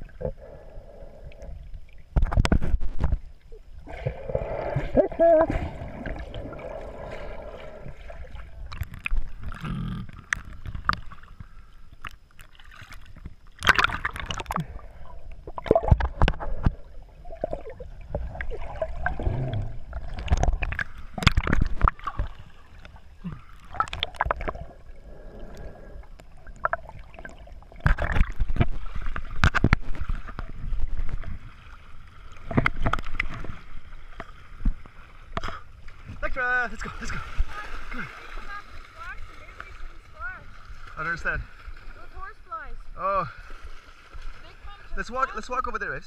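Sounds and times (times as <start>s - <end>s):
water sloshing and gurgling: 0.0s - 46.0s
water splashes: 0.0s - 46.0s.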